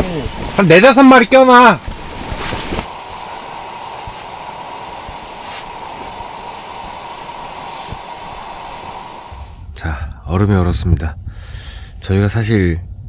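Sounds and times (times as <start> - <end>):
strong wind blowing: 0.0 - 13.0.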